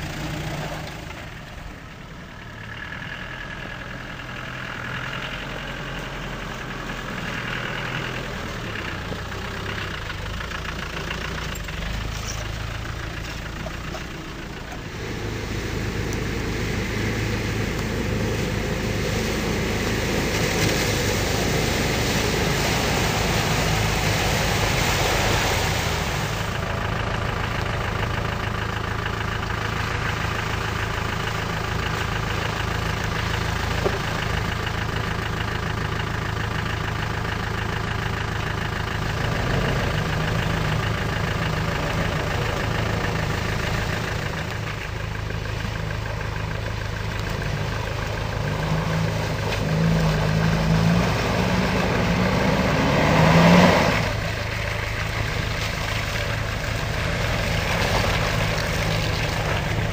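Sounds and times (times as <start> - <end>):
off-road vehicle engine running: 0.0 - 59.9
tyres spraying mud and water: 0.0 - 59.9.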